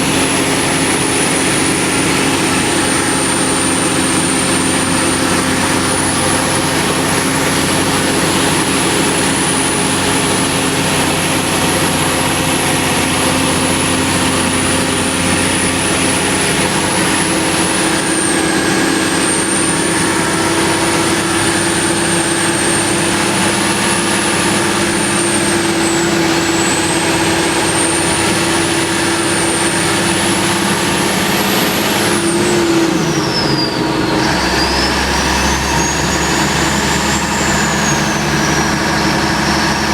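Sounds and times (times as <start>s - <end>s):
high wavering whine: 0.0s - 39.9s
truck engine and road noise: 0.0s - 39.9s.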